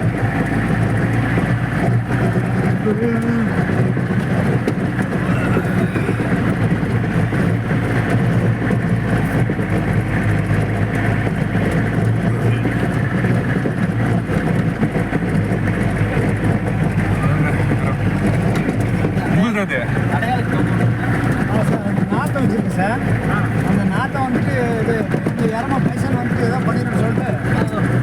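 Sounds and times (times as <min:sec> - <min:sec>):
jeep engine and driving drone: 0:00.0 - 0:28.0.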